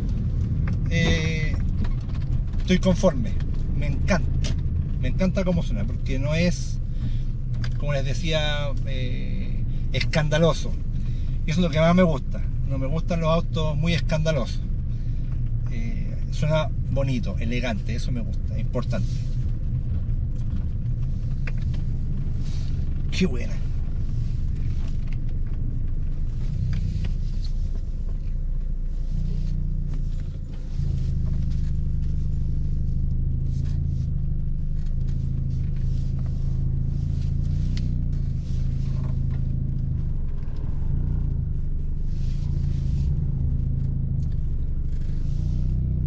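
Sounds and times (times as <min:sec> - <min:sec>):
car engine and exhaust droning: 0:00.0 - 0:46.0.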